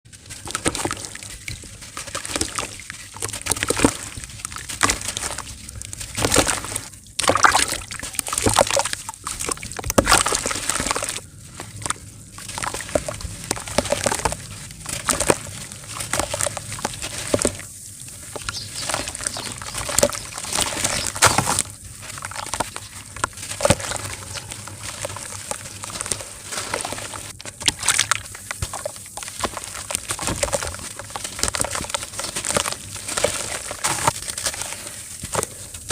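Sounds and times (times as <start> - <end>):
dirt clumps crunching and crackling: 0.1 - 35.9.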